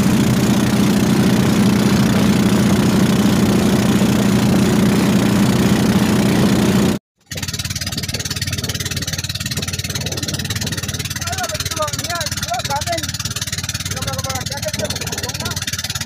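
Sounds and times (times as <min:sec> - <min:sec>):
outboard motor running: 0:00.0 - 0:16.0
quieter engine: 0:00.0 - 0:16.0.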